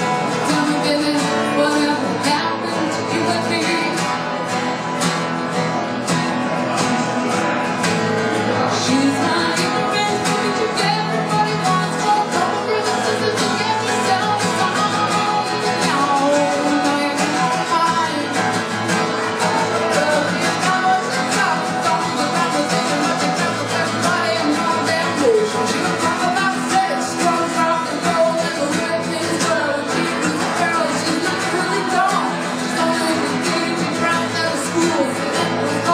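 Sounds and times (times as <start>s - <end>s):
woman singing: 0.0s - 4.3s, 8.6s - 35.9s
acoustic guitar strumming: 0.0s - 35.9s.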